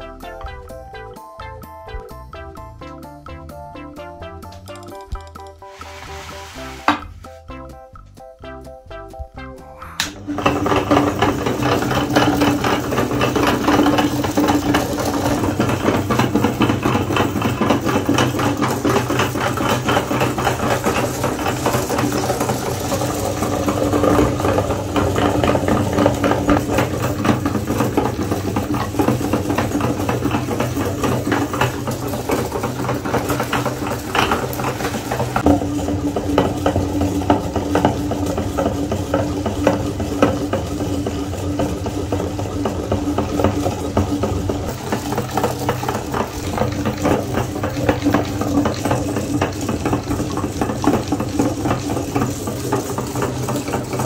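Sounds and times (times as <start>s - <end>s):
fast rattling clatter: 10.3s - 54.0s.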